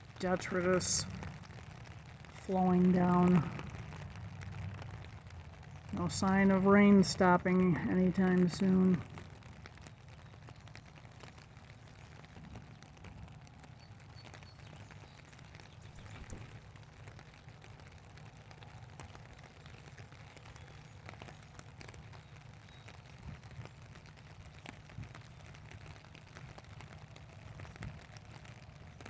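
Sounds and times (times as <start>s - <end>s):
rain drops tapping: 0.0s - 29.0s.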